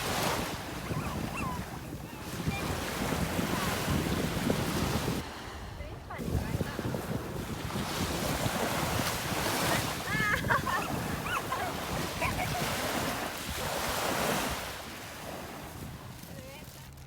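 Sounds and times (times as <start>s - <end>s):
wind buffeting microphone: 0.0s - 16.6s
waves washing onto beach: 0.0s - 17.0s.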